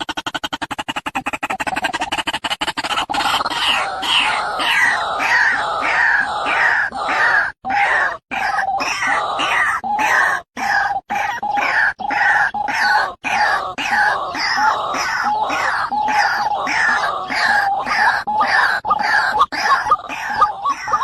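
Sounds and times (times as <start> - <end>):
waterhen calling: 0.0 - 21.0.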